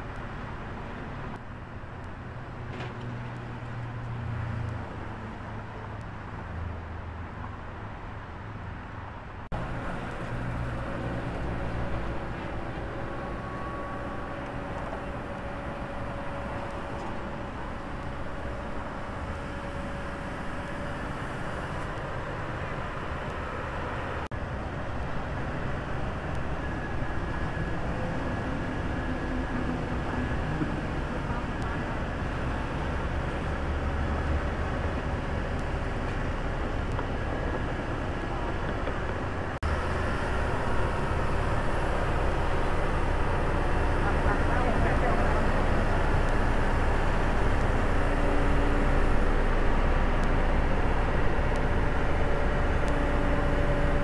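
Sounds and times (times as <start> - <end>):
excavator diesel engine running: 9.5 - 54.0.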